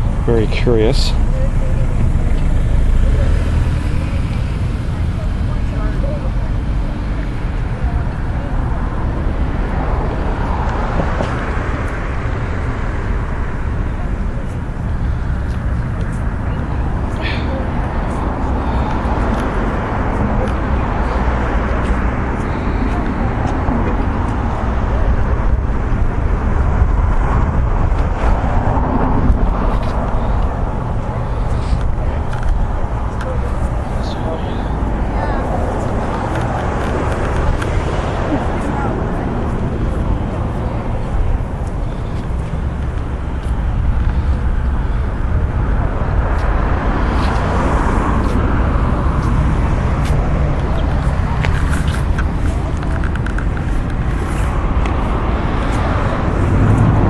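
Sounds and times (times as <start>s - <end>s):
faint voices: 0.0s - 57.0s
road traffic rumble: 0.0s - 57.0s.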